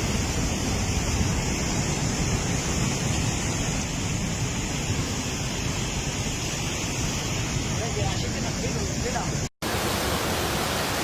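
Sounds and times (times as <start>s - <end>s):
strong wind buffeting: 0.0s - 9.5s
heavy rain pouring: 0.0s - 11.0s.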